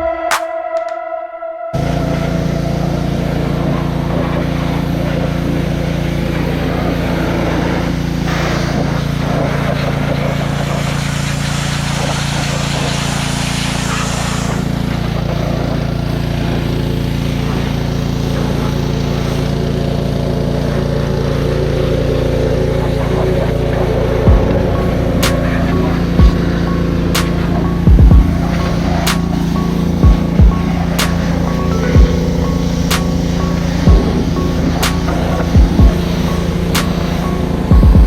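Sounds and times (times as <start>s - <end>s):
engine running steadily: 1.8s - 38.0s
spray hiss: 1.8s - 38.0s.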